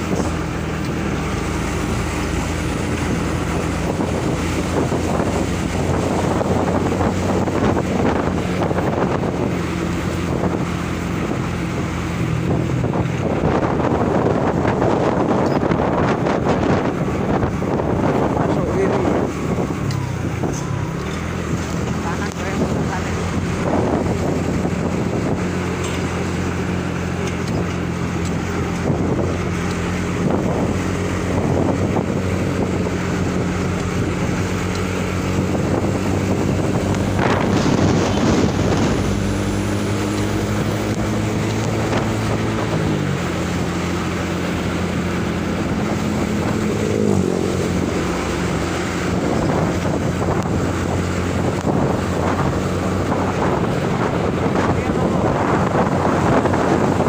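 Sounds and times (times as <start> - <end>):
road and wind noise: 0.0 - 57.0
truck engine running: 0.0 - 57.0.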